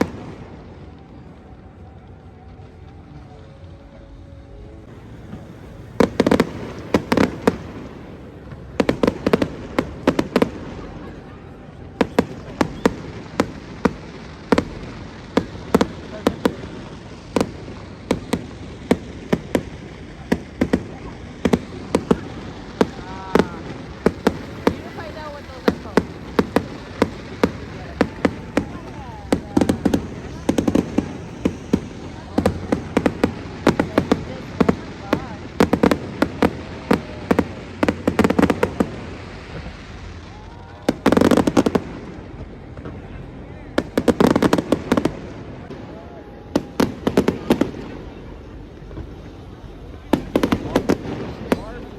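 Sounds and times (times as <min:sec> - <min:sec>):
fireworks banging: 0:00.0 - 0:51.9.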